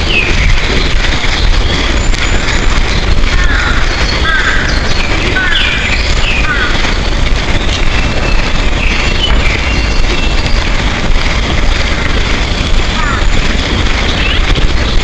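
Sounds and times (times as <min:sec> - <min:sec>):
loud low rumble: 0:00.0 - 0:15.0
small birds chirping: 0:00.0 - 0:15.0.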